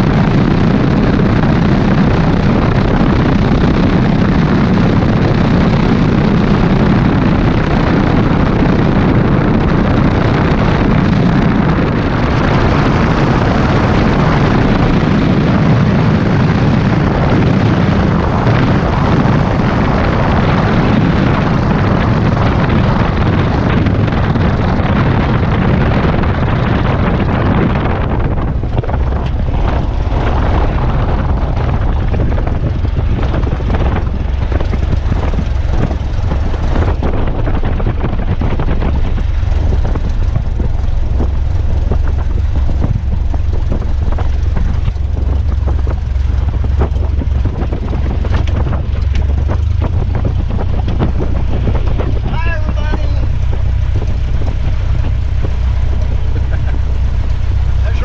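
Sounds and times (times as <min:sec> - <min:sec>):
light airplane engine and propeller: 0:00.0 - 0:58.0.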